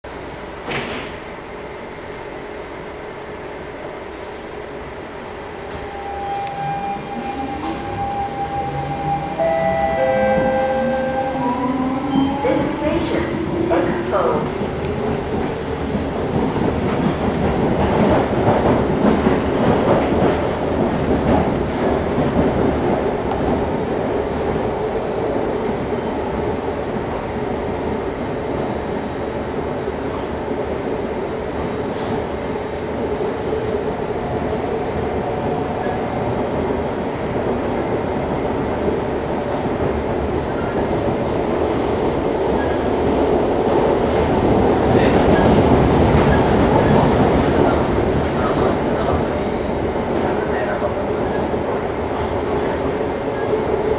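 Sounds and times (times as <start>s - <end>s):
train rumbling on rails: 0.0s - 53.9s.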